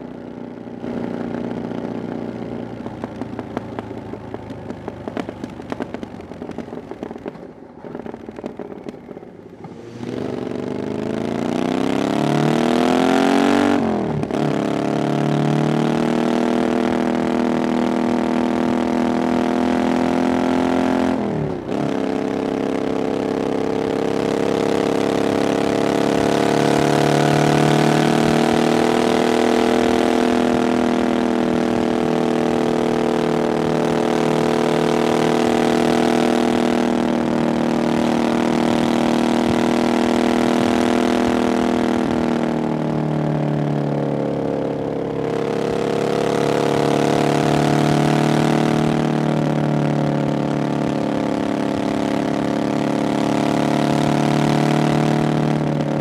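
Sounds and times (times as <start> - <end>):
motorcycle engine riding: 0.0 - 56.0.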